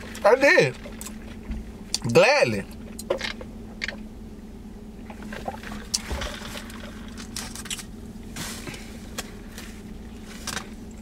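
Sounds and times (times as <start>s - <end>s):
low hum inside car: 0.0s - 11.0s.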